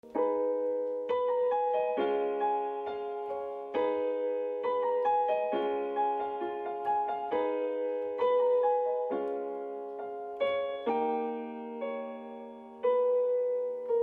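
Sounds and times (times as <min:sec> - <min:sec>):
piano chords ringing: 0:00.0 - 0:14.0.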